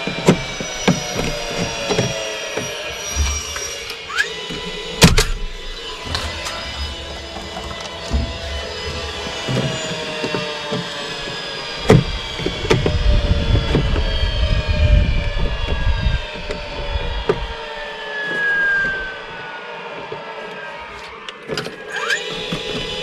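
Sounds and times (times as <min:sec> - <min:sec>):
droning hum falling in pitch: 0:00.0 - 0:23.0.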